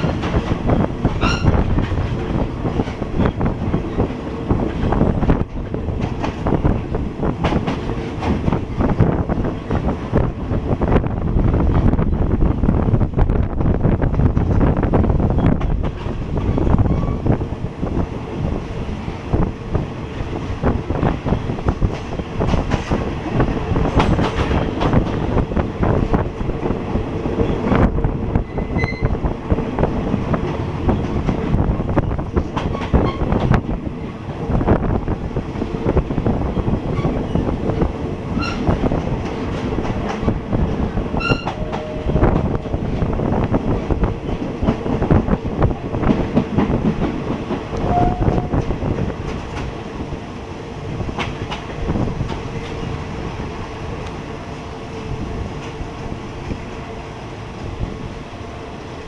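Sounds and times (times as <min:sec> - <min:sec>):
train wheels clattering on rails: 0:00.0 - 0:54.3
train rumble and hum: 0:00.0 - 0:59.0.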